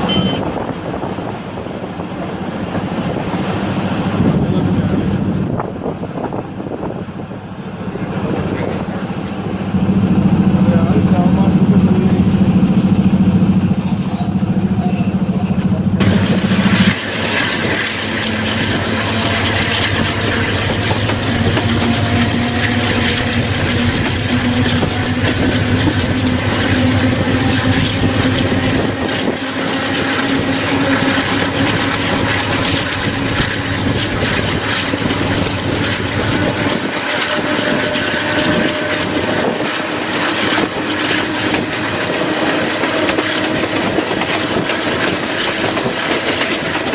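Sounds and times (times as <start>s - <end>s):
train wheels on track: 0.0s - 46.9s.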